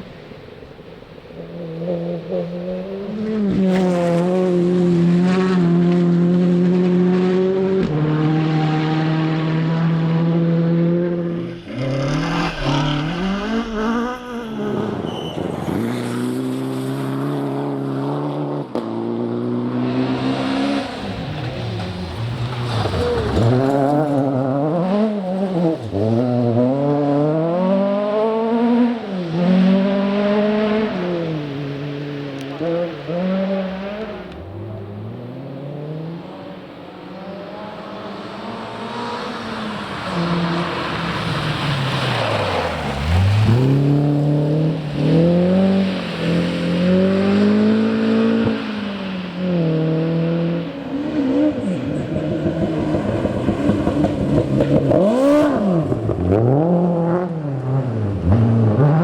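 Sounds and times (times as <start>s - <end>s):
rally car engine revving: 1.3s - 59.0s.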